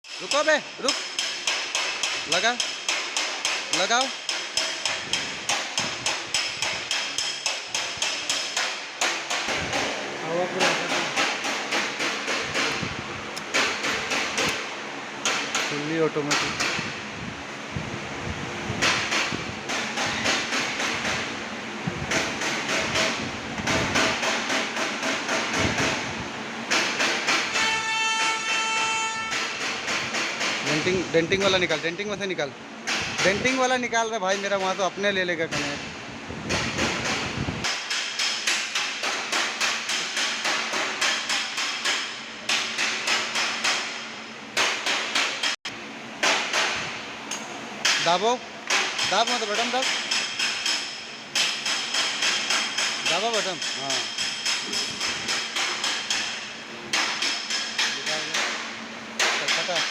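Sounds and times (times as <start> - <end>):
hammer tapping on sheet metal: 0.1 - 14.6, 15.2 - 16.9, 18.7 - 21.4, 22.0 - 32.0, 32.9 - 35.8, 36.4 - 44.0, 46.2 - 59.9.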